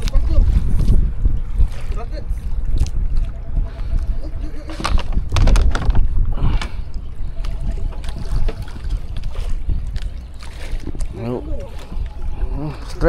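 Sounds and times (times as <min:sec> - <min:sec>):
water splashing and lapping: 0:00.0 - 0:13.0
wind rumbling on microphone: 0:00.0 - 0:13.0.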